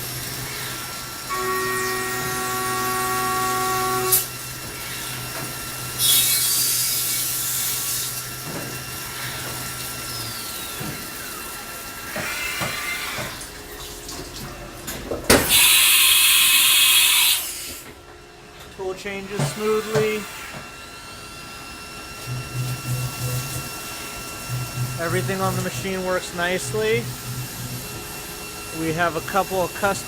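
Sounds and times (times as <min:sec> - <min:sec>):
mill spindle whine: 0:00.0 - 0:30.0.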